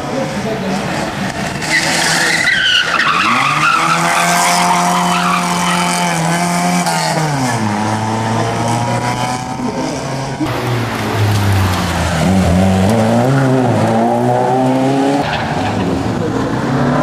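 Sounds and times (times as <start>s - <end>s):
rally car engine accelerating: 0.1s - 17.0s.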